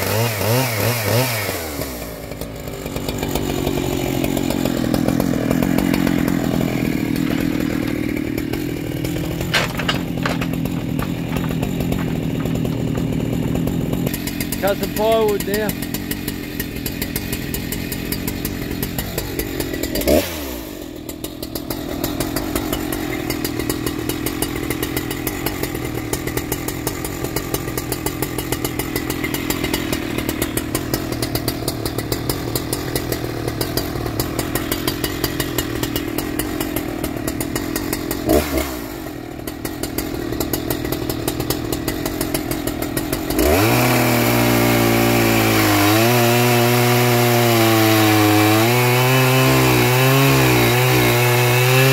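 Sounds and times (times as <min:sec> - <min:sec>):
chainsaw cutting log: 0:00.0 - 0:51.9
chainsaw idling and blipping: 0:00.0 - 0:51.9.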